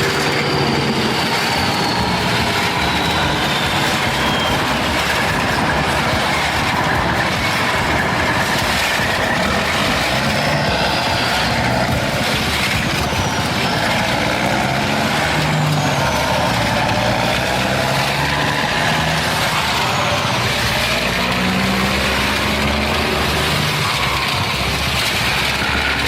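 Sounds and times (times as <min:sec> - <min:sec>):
heavy farm vehicle engine running: 0:00.0 - 0:26.0.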